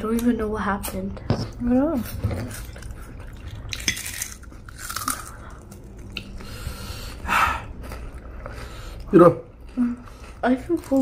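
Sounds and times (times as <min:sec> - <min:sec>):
chewing and crunching snack: 0:02.0 - 0:11.0.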